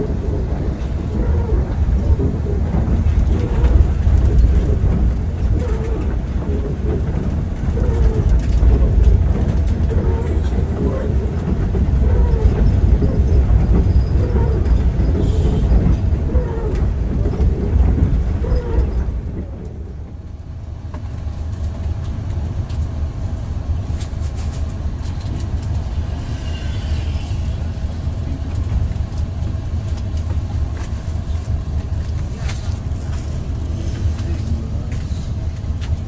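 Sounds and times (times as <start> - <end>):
bus diesel engine rumble: 0.0 - 36.0.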